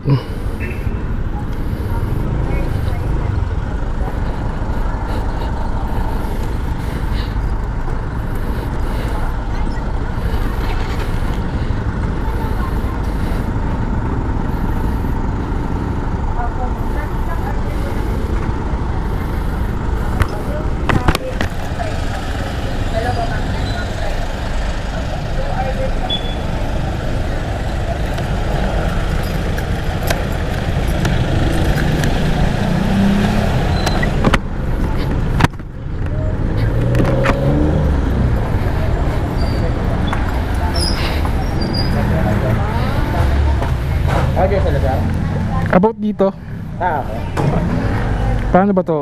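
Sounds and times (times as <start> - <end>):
motorcycle engine rumbling: 0.0 - 49.0.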